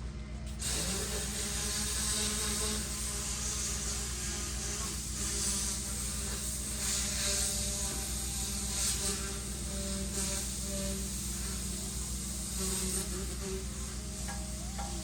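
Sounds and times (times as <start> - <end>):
electric hum and buzz: 0.0 - 15.0
hiss: 0.5 - 15.0.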